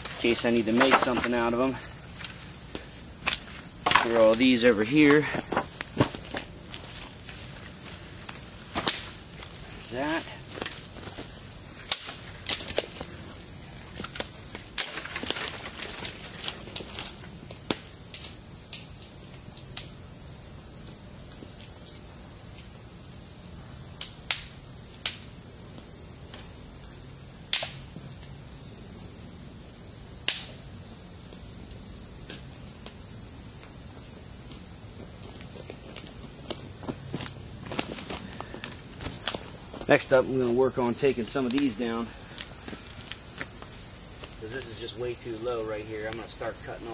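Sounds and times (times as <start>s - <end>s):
high-pitched insect chorus: 0.0s - 46.9s.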